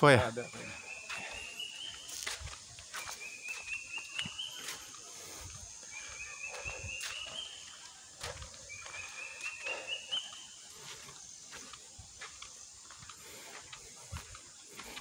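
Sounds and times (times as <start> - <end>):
footsteps on paved path: 0.0 - 15.0
high insect whine: 0.0 - 15.0.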